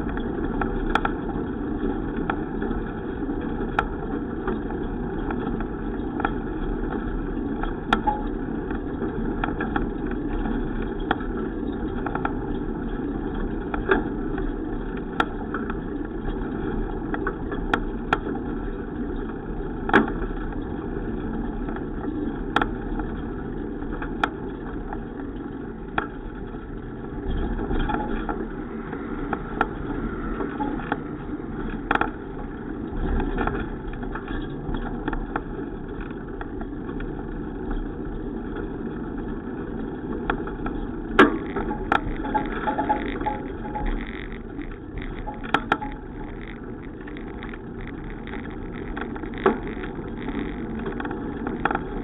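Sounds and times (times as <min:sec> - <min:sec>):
sharp clicks and ticks: 0:00.0 - 0:01.4, 0:02.0 - 0:23.2, 0:23.8 - 0:52.0
bicycle rumble and hum: 0:00.0 - 0:52.0.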